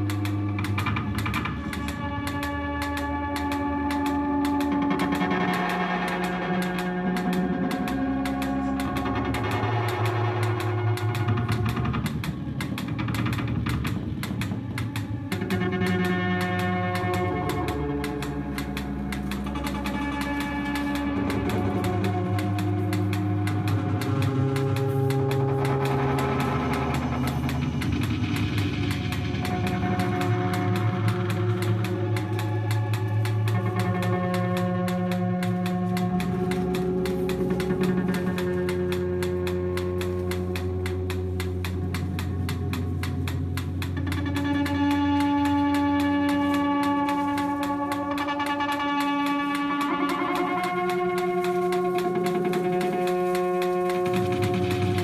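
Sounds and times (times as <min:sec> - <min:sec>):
fast ticking pulse: 0:00.0 - 0:55.0.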